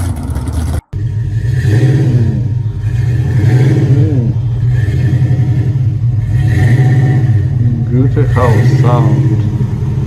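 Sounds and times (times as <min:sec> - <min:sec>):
car engine choppy idle and revs: 0:00.0 - 0:10.0.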